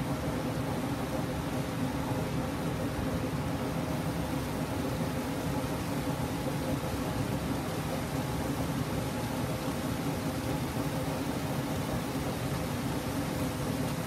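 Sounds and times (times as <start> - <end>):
geyser spouting water and steam: 0.0 - 14.0.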